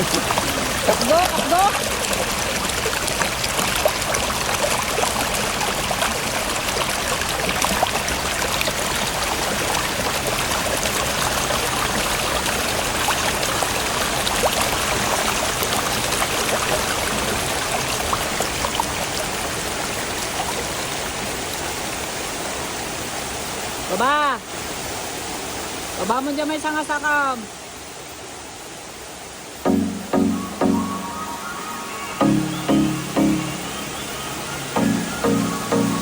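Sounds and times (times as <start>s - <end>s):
mountain stream rushing over rocks: 0.0s - 29.6s.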